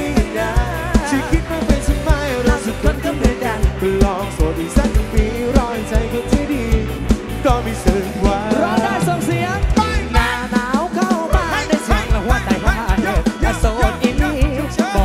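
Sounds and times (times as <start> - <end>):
drum kit beat: 0.0 - 15.0
guitar: 0.0 - 15.0
man singing: 0.0 - 15.0.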